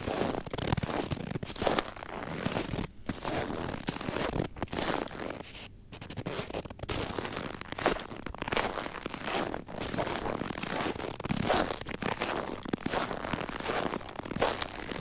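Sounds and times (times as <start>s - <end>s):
footsteps crunching on snow: 0.0s - 15.0s.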